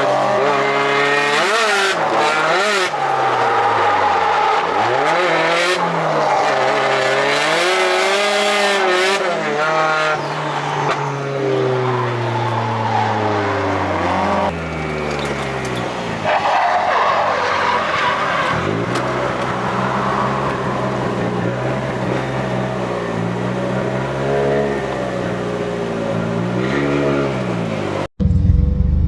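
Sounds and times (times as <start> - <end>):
tyres squealing: 0.0 - 23.3
car engine revving: 0.0 - 29.0.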